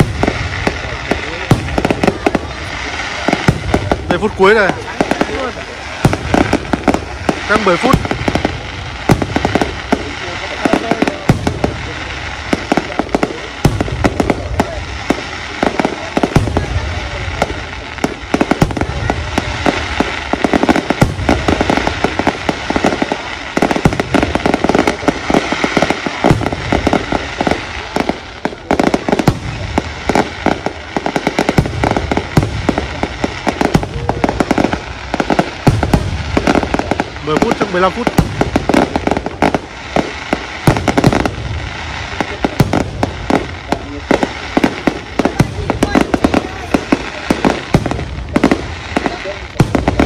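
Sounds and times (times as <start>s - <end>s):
fireworks bangs and crackling: 0.0s - 50.0s
low fireworks booms: 0.0s - 50.0s.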